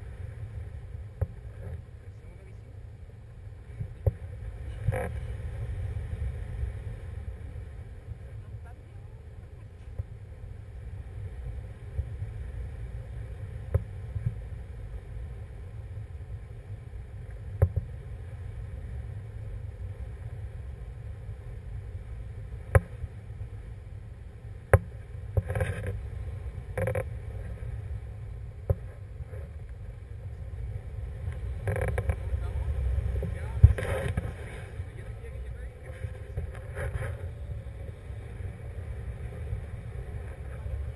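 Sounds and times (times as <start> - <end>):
wind gusts: 0.0 - 40.9
wind rushing over microphone: 0.0 - 40.9.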